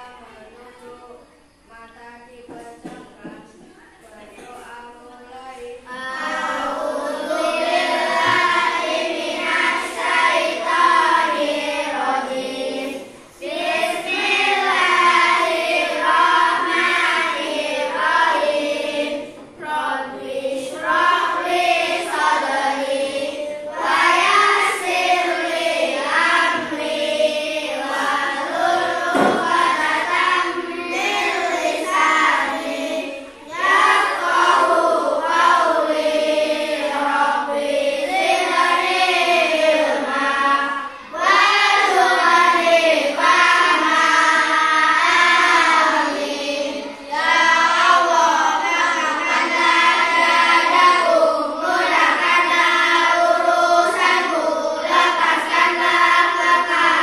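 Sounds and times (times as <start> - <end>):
children chanting in unison: 0.0 - 57.0.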